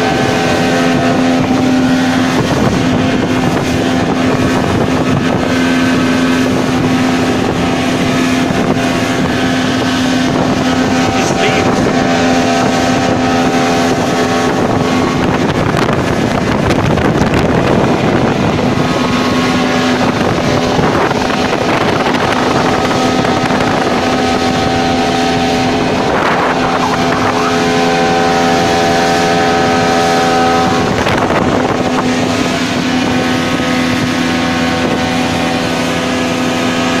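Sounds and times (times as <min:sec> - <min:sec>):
boat engine droning: 0:00.0 - 0:37.0
water rushing: 0:00.0 - 0:37.0
wind: 0:00.0 - 0:37.0.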